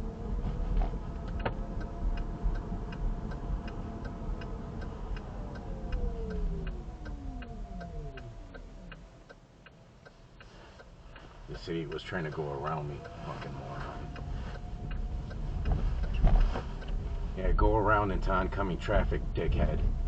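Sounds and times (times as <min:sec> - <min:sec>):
low road rumble: 0:00.0 - 0:20.0
turn signal ticking: 0:00.0 - 0:20.0.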